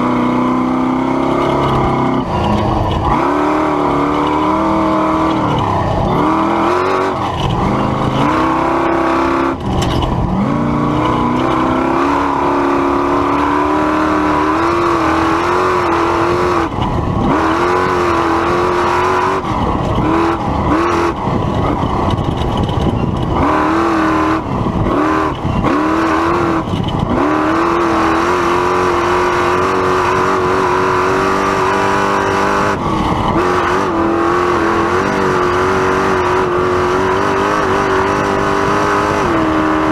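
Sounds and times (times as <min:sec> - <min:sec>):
truck engine revving high: 0:00.0 - 0:39.9.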